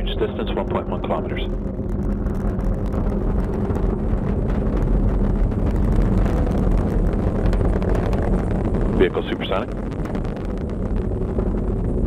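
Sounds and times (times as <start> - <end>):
rocket engines rumbling and crackling: 0.0 - 12.0.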